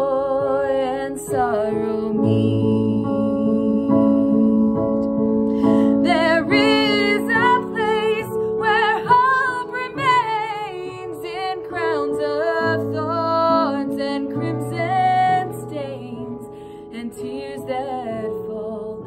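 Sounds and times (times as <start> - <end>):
keyboard chords: 0.0 - 19.0
woman singing worship song: 0.0 - 19.0.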